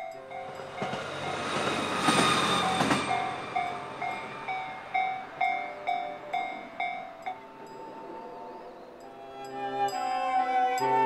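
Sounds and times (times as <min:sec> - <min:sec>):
train passing over rails: 0:00.0 - 0:11.0.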